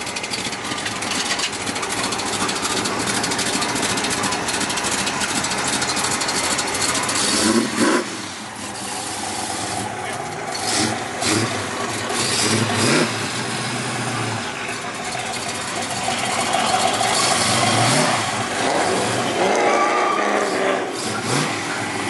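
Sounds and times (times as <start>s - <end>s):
car engine running at low speed: 0.0s - 19.6s.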